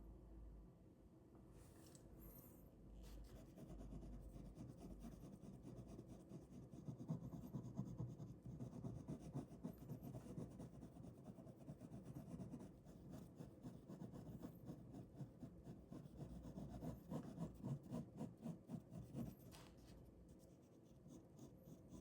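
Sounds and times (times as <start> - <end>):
ballpoint pen scratching on paper: 3.4 - 22.0.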